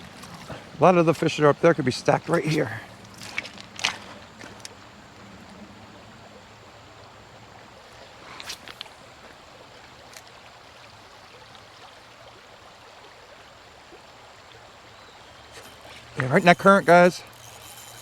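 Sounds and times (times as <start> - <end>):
creek water flowing: 0.0 - 18.0.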